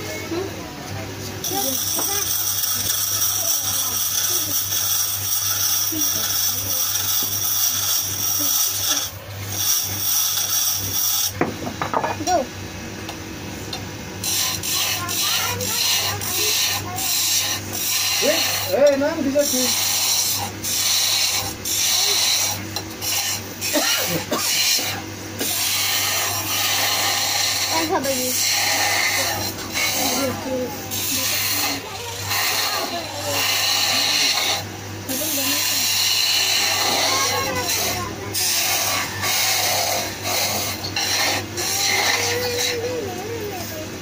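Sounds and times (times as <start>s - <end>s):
lathe humming: 0.0s - 44.0s
chisel scraping spinning wood: 1.4s - 12.4s, 14.2s - 43.2s.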